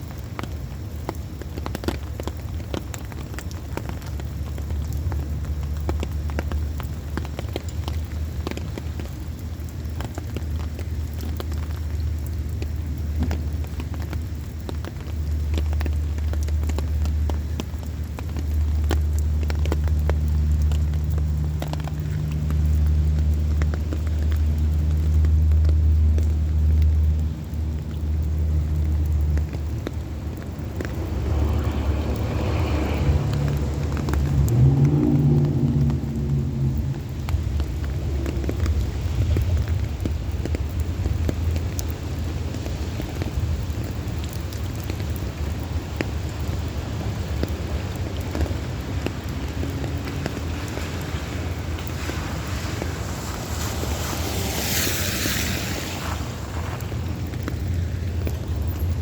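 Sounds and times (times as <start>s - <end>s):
heavy rain falling: 0.0s - 59.0s
steady low rumble: 0.0s - 59.0s.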